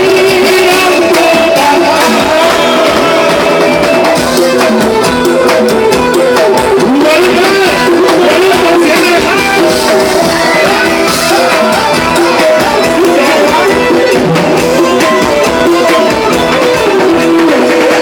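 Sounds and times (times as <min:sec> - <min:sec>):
band melody: 0:00.0 - 0:18.0
drum beat: 0:00.0 - 0:18.0.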